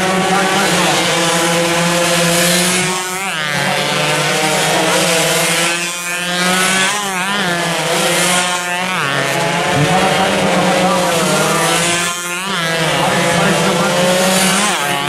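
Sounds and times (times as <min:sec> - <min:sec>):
race motorcycles revving past: 0:00.0 - 0:15.0.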